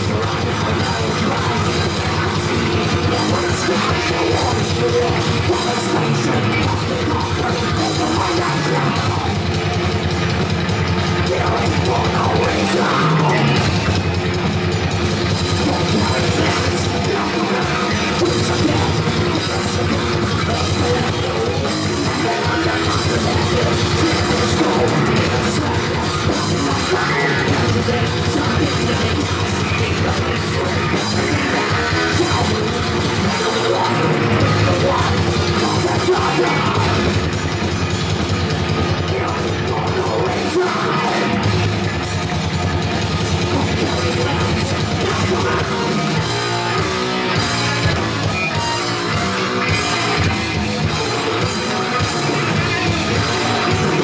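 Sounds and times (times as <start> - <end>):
electric guitars: 0.0 - 54.0
pounding drum kit: 0.0 - 54.0
rock vocals: 0.0 - 54.0.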